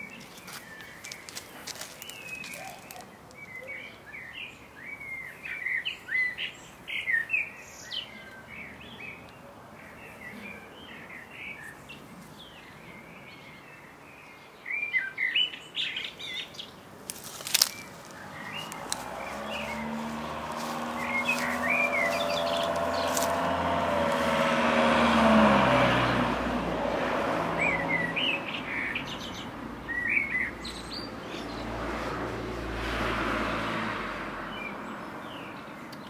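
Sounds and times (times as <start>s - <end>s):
small birds chirping and singing: 0.0s - 25.5s, 27.5s - 31.7s, 34.5s - 36.0s.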